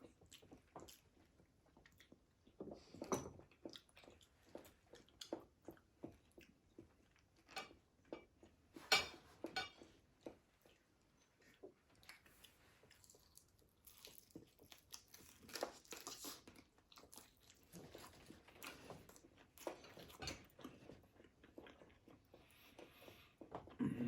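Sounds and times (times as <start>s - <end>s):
chewing crispy fried food: 0.0s - 23.8s.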